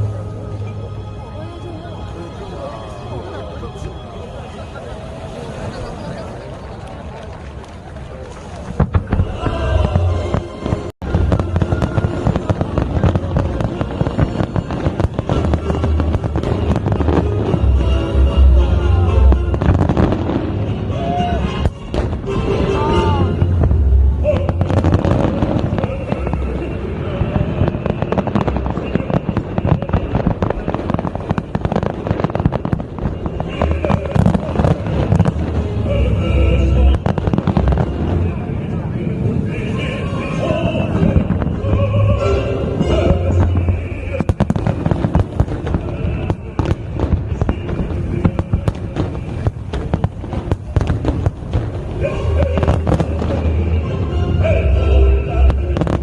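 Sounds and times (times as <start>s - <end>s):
music playing: 0.0s - 6.6s, 8.8s - 56.0s
fireworks bangs and crackling: 4.4s - 56.0s.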